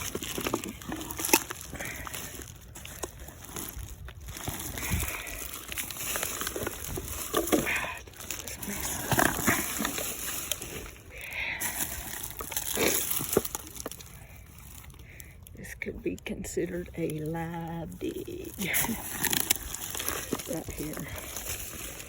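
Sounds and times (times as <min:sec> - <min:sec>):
rustling and scraping debris: 0:00.0 - 0:22.0.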